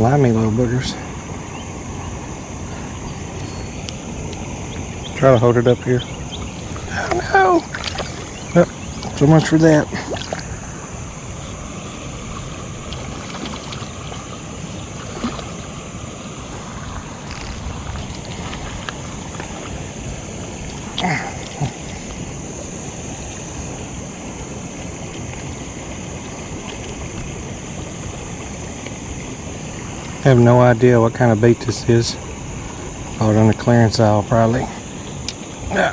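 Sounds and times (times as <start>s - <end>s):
stream rushing: 0.0s - 35.9s.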